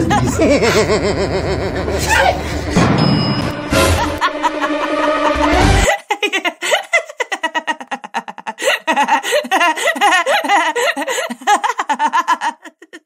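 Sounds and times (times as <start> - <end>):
high-pitched giggling: 0.0 - 2.6, 4.0 - 13.0.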